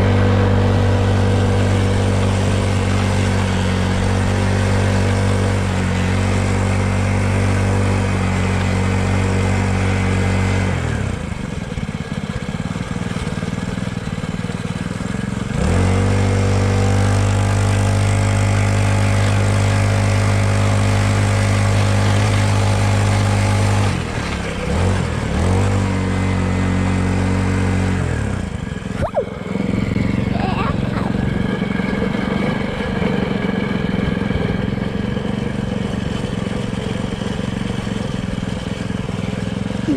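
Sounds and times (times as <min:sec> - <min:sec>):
dirt bike engine revving: 0:00.0 - 0:11.1, 0:15.5 - 0:39.9.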